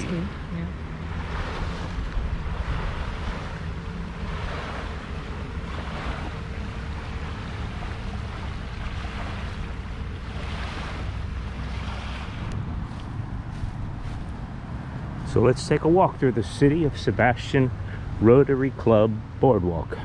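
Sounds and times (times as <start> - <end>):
wind on microphone: 0.0 - 18.6
small waves washing onto sand: 0.0 - 20.0.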